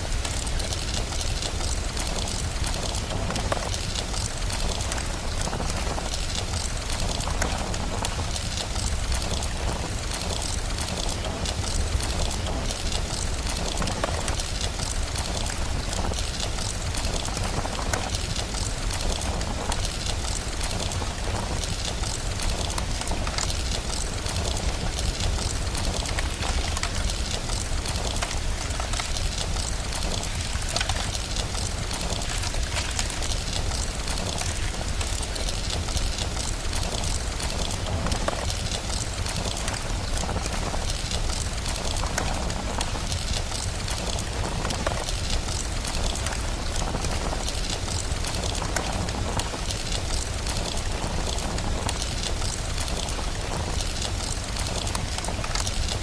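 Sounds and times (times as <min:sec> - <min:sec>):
fire crackling: 0:00.0 - 0:56.0
steady rain: 0:00.0 - 0:56.0.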